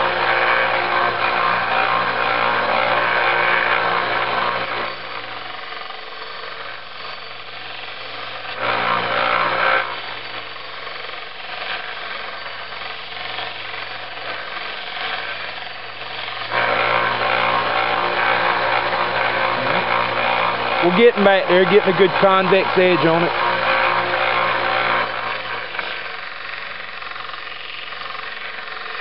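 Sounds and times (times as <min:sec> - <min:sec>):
grinding steel edge: 0:00.0 - 0:05.7, 0:06.3 - 0:29.0
electric grinder motor hum: 0:00.0 - 0:29.0.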